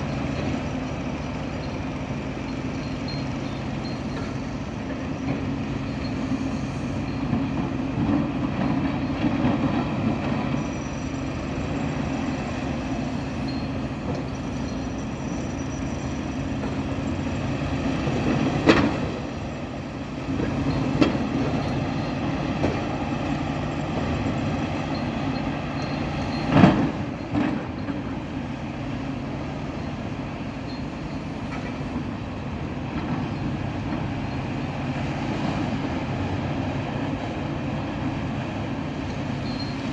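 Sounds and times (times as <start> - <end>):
excavator engines running: 0.0 - 39.9.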